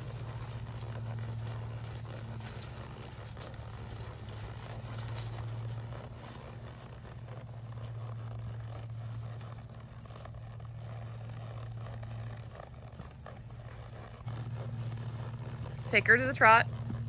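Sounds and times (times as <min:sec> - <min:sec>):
hooves thudding on grass: 0:00.0 - 0:17.0
steady low hum: 0:00.0 - 0:17.0.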